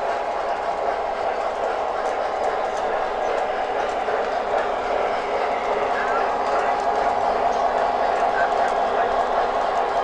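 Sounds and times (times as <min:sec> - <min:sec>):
model train whirring rumble: 0:00.0 - 0:10.0.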